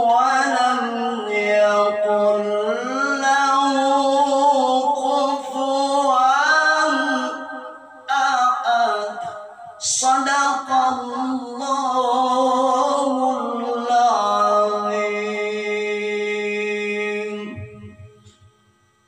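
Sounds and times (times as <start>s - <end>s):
man chanting melodic recitation: 0.0s - 18.4s.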